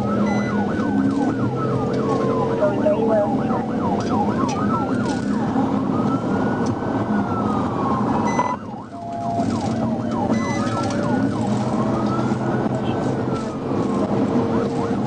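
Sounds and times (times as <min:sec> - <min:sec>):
police car siren wailing and yelping: 0:00.0 - 0:15.0
road noise: 0:00.0 - 0:15.0.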